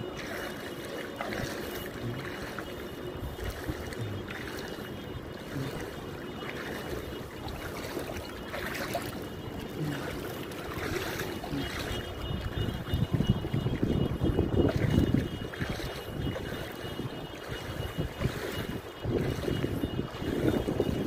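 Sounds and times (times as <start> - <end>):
floodwater sloshing and rushing: 0.0 - 21.0
vehicle noise: 0.0 - 21.0.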